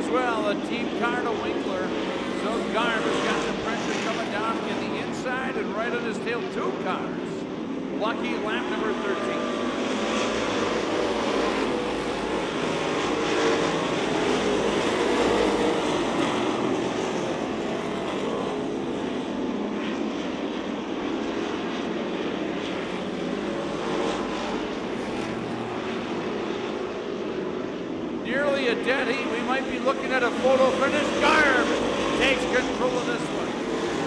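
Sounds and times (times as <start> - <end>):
drone of racing car engines: 0.0 - 34.0.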